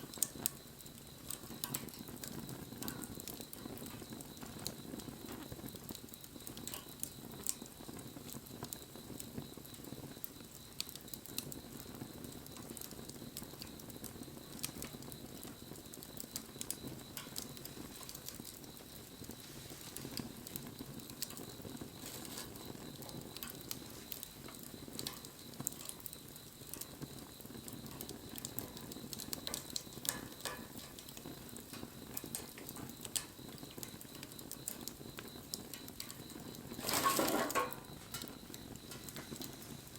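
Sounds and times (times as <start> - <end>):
bonfire crackling and popping: 0.0 - 39.9
low rumble of flames: 0.0 - 39.9.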